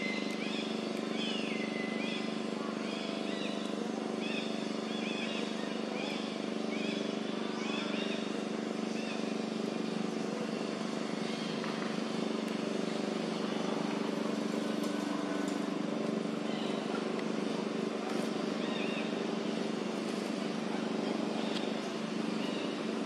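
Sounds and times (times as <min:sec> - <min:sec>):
steady engine hum: 0:00.0 - 0:23.0.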